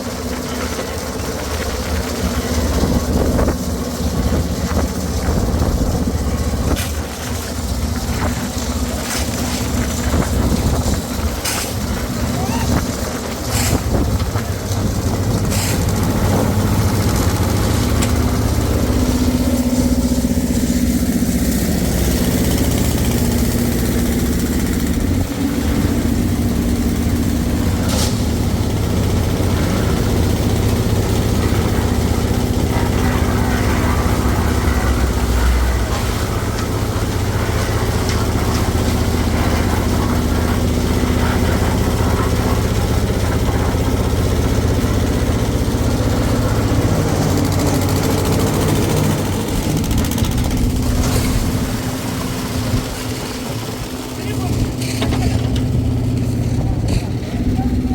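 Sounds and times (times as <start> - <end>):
engine idling: 0.0 - 57.9.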